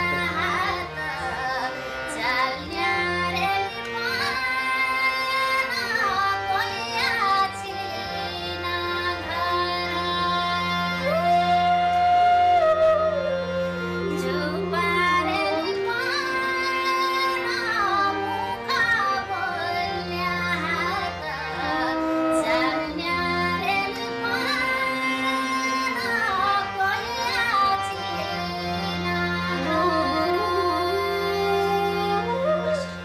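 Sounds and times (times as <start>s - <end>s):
instrumental backing: 0.0s - 33.0s
woman singing folk song: 0.0s - 33.0s.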